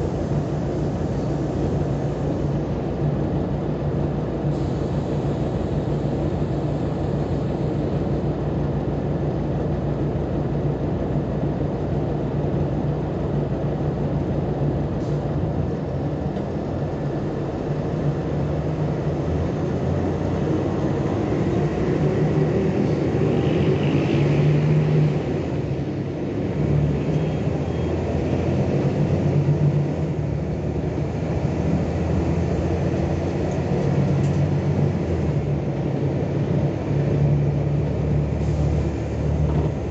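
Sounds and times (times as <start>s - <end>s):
diesel bus engine rumble: 0.0s - 39.9s.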